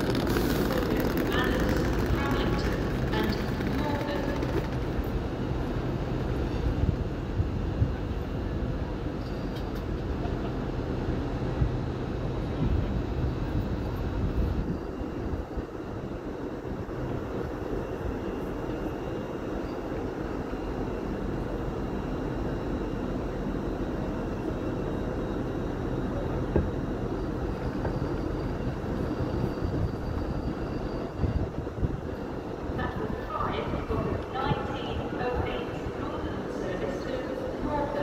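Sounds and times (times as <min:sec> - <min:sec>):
diesel train engine drone: 0:00.0 - 0:38.0.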